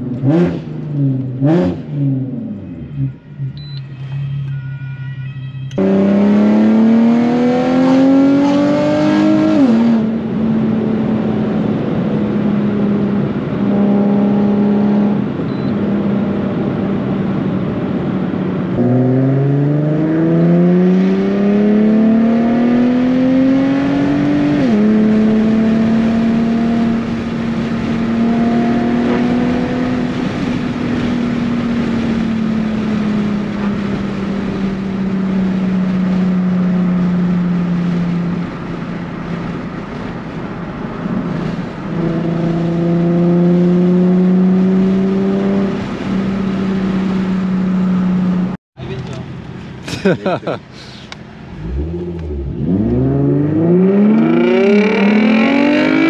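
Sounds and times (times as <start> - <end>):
car exhaust accelerating hard: 5.8 - 48.6, 51.3 - 56.0.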